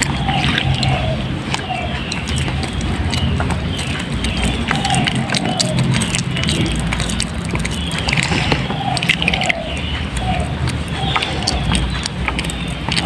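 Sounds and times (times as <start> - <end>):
steady low hum: 0.0 - 13.0
wet soap squelching: 0.0 - 13.0.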